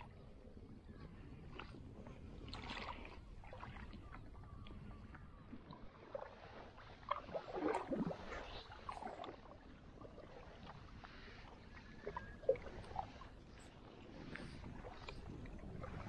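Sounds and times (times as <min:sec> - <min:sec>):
paddle splashing water: 0:01.4 - 0:16.0.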